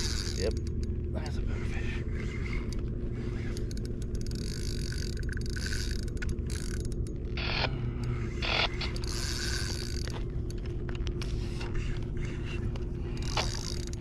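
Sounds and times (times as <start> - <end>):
fishing reel gears clicking: 0.0 - 1.0, 2.0 - 10.7, 11.7 - 14.0
low hum: 0.0 - 14.0.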